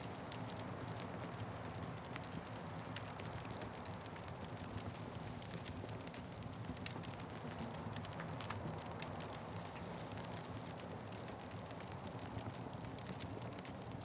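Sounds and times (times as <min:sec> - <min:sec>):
wood fire crackling: 0:00.2 - 0:14.0.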